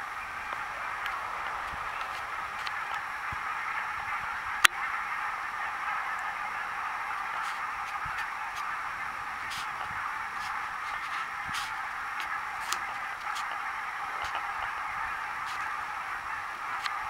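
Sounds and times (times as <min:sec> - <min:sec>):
flock of geese calling: 0:00.0 - 0:17.0.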